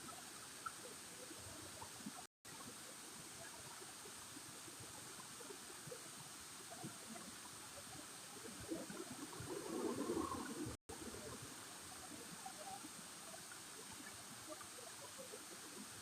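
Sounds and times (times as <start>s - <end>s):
faint running water: 0.0s - 16.0s.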